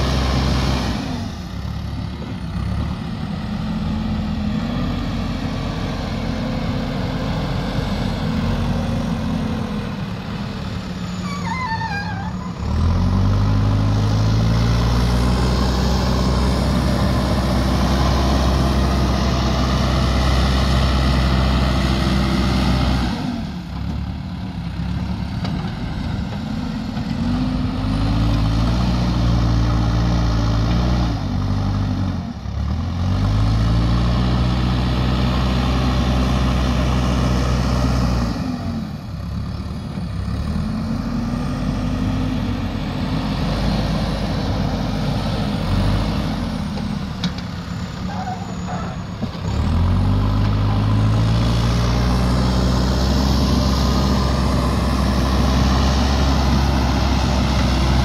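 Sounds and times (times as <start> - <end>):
diesel engine working under load: 0.0 - 58.0.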